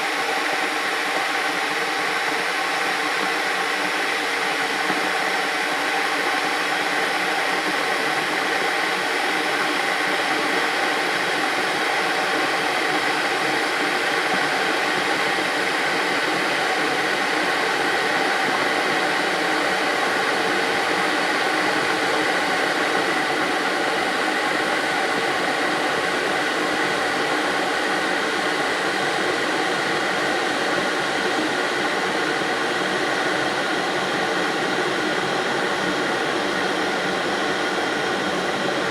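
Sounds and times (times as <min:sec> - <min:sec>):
electric kettle boiling: 0:00.0 - 0:38.9.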